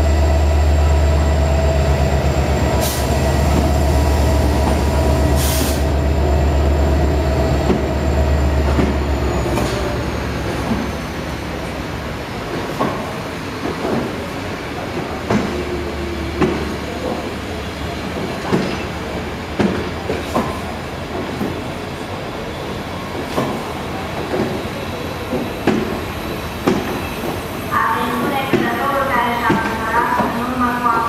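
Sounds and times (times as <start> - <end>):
train rolling rumble: 0.0 - 31.0.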